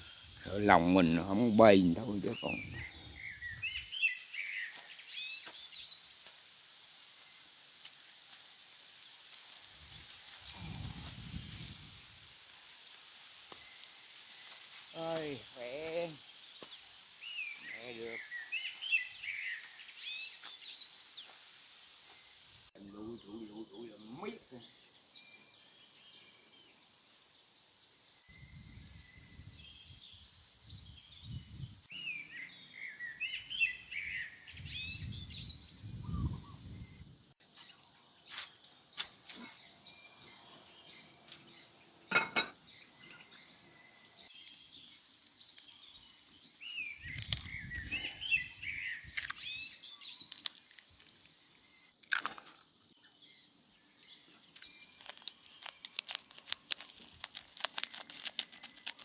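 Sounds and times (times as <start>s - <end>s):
birds twittering: 0.0s - 6.3s, 8.0s - 59.0s.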